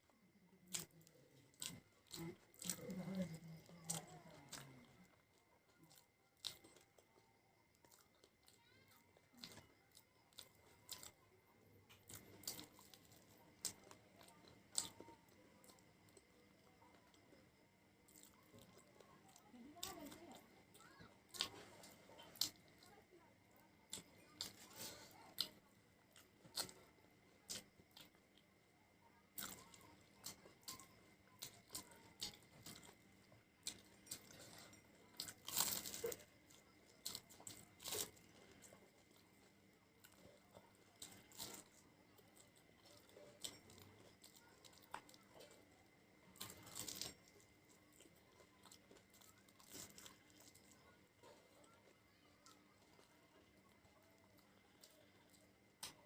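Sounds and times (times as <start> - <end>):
person chewing fried snacks: 0.3 - 56.0.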